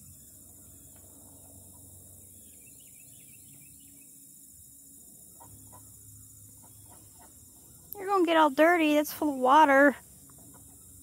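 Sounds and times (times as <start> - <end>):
faint bird chirps: 0.0 - 4.4, 5.0 - 11.0
steady high hiss: 0.0 - 11.0.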